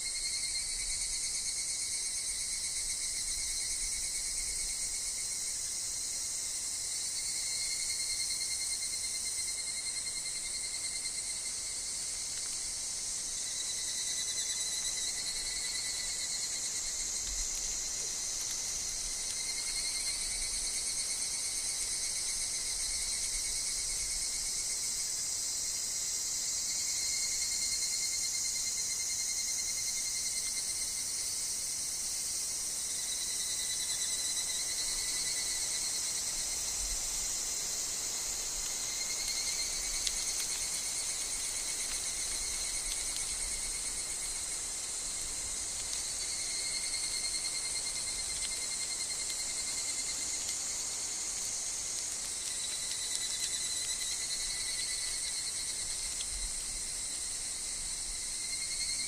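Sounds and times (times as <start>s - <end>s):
chorus of calling insects: 0.0s - 59.0s.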